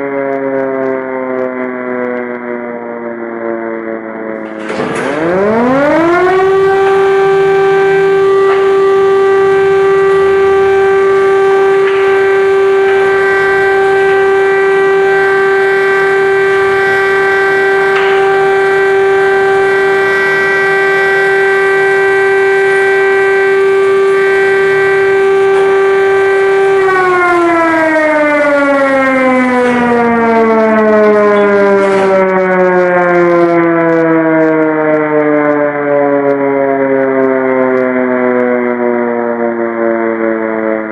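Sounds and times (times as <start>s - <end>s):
air-raid siren wailing: 0.0s - 40.9s.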